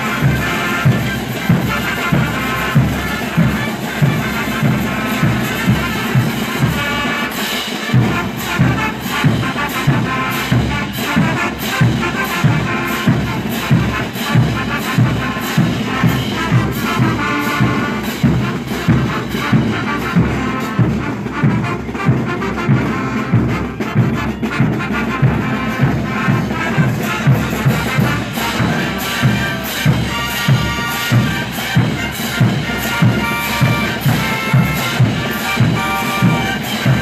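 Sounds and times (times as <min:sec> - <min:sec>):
brass band playing: 0:00.0 - 0:37.0
steady drum beat: 0:00.0 - 0:37.0.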